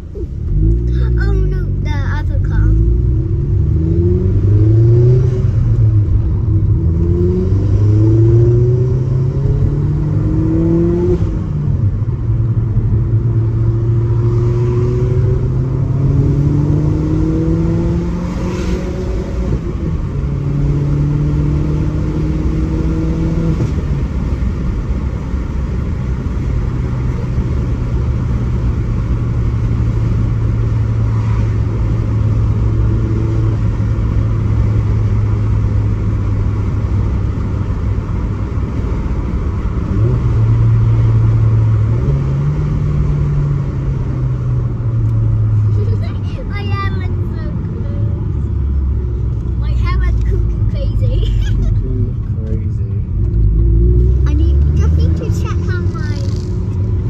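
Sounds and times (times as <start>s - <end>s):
turbocharged engine accelerating: 0.0s - 57.0s.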